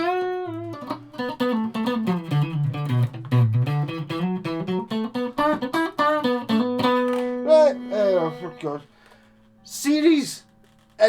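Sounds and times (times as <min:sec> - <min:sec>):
electric guitar picked notes: 0:00.0 - 0:10.9.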